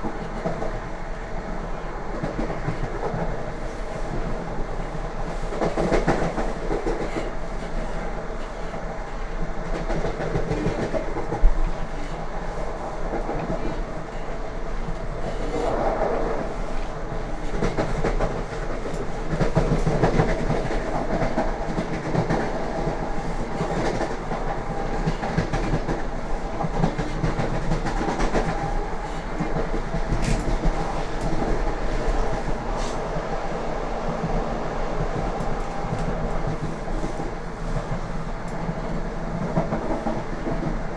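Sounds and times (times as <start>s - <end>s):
train carriage rumble: 0.0s - 40.9s.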